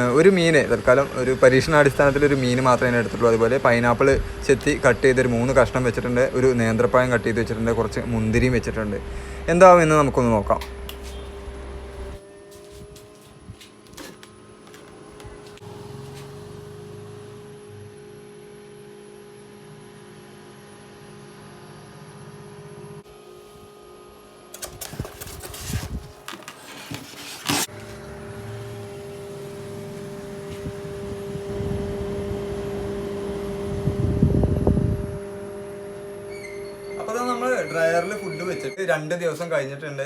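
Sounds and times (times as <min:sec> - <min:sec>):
electric fan humming: 0:00.0 - 0:40.0.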